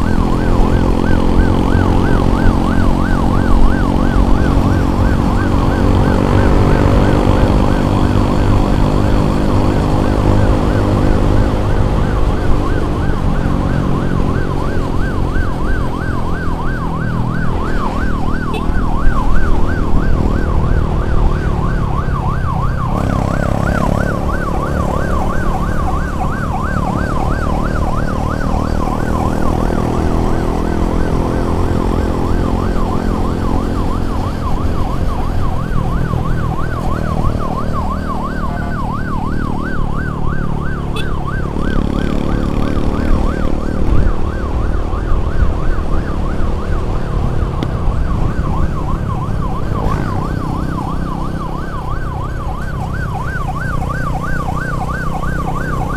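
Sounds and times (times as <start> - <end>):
emergency siren warbling: 0.0 - 55.9.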